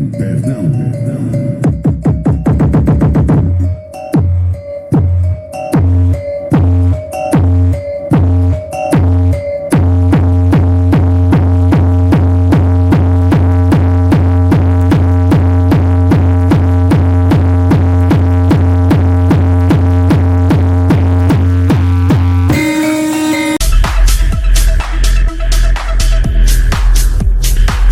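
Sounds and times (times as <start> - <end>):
electronic dance music with heavy bass: 0.0 - 27.9.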